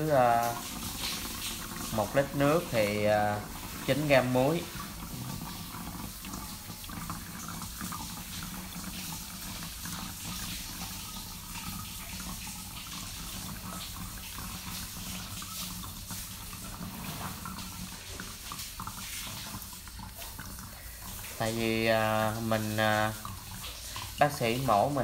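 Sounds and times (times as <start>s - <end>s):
water pouring into a plastic bottle: 0.0s - 25.0s.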